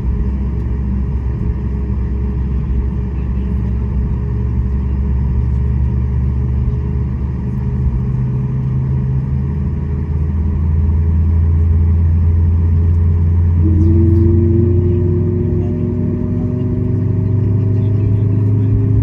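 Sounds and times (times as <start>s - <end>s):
airplane cabin engine drone: 0.0s - 19.0s.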